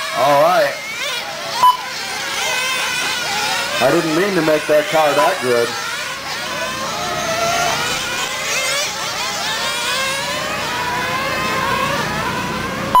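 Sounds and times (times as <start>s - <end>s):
rc car engines whining: 0.0s - 13.0s.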